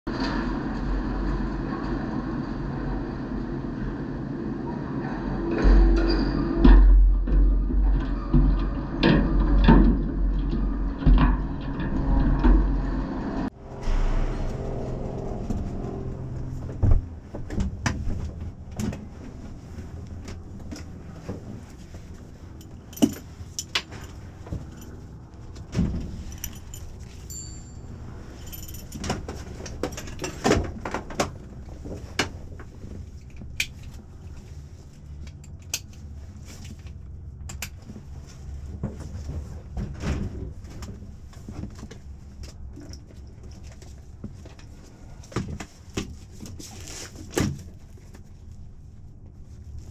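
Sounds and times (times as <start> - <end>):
low steady rumble: 0.1 - 49.9.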